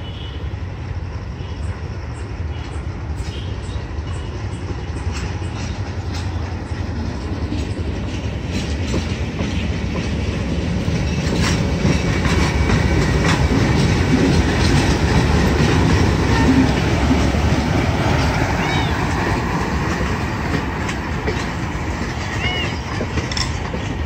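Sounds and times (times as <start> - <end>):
diesel locomotive engine drone: 0.0 - 24.0
wheels clicking over rail joints: 4.1 - 24.0.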